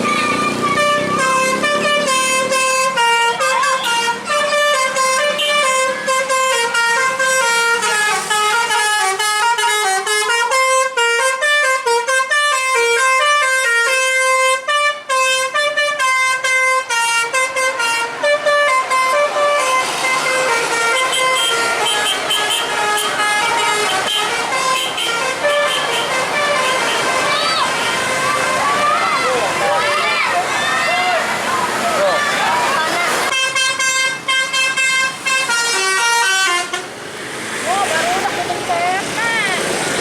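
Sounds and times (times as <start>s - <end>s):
musical air horn playing tune: 0.2s - 29.0s, 33.3s - 36.9s.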